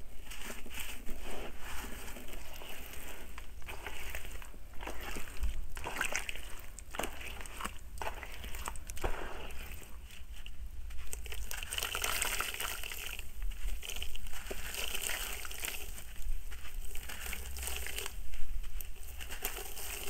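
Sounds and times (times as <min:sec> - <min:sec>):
gritty soil crackling: 0:00.0 - 0:20.0
wet mud squelching: 0:00.0 - 0:20.0.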